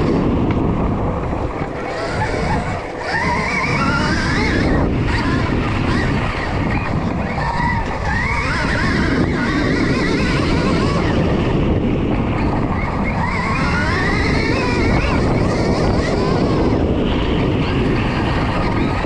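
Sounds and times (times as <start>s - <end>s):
electric motor whine: 0.0s - 19.0s
wind and tyres on dirt: 0.0s - 19.0s.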